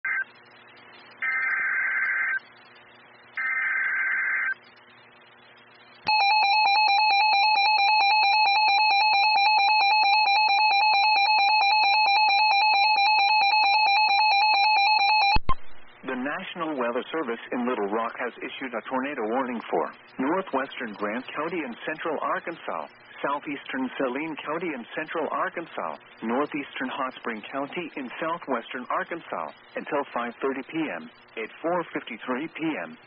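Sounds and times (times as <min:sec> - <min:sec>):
steady attention tone: 0:00.1 - 0:33.0.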